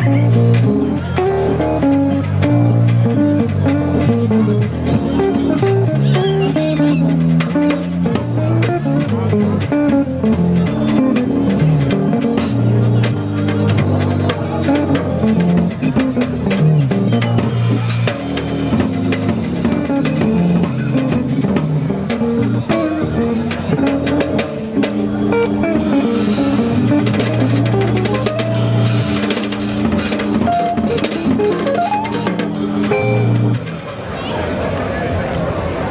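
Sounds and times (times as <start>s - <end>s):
bass line: 0.0s - 33.7s
guitar playing: 0.0s - 33.8s
drum kit beats: 0.0s - 33.9s.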